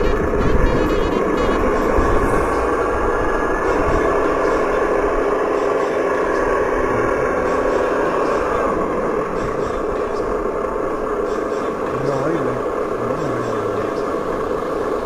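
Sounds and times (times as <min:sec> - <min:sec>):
low uneven rumble: 0:00.0 - 0:15.0
small electric motors whining: 0:00.0 - 0:15.0.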